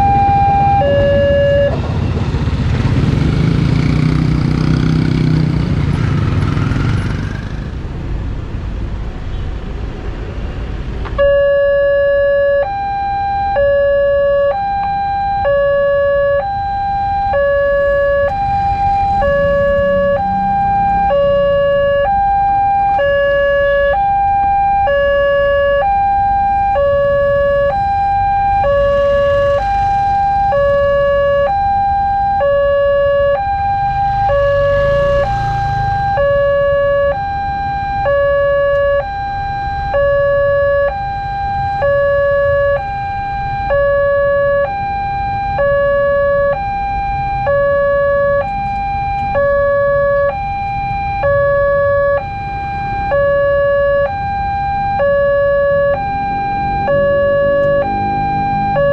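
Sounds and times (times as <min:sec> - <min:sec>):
level crossing two-tone alarm: 0:00.0 - 0:01.8, 0:11.2 - 0:58.9.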